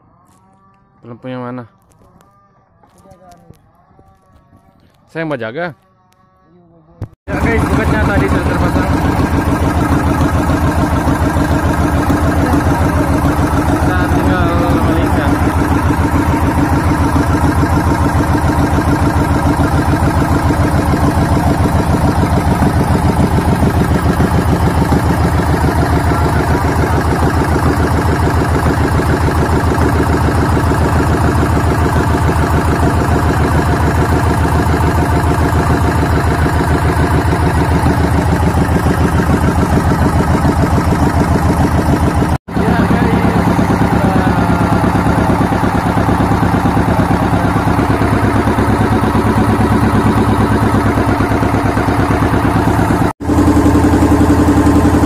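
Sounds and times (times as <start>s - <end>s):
boat engine chugging: 7.3s - 55.0s.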